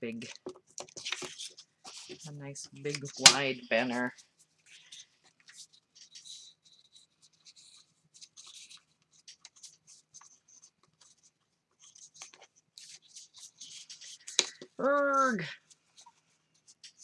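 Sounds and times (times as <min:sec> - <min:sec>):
paper rustling and sliding: 0:00.8 - 0:17.0.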